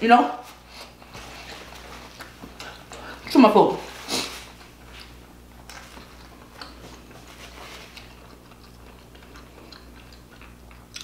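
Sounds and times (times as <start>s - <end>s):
person chewing food: 0.8s - 3.3s, 4.2s - 11.0s.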